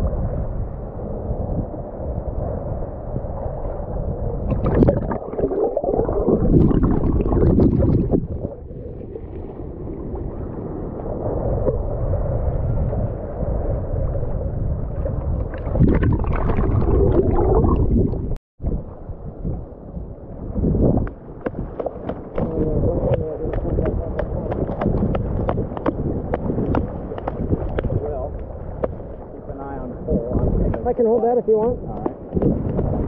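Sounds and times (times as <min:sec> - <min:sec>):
muffled surf sloshing and gurgling: 0:00.0 - 0:33.0.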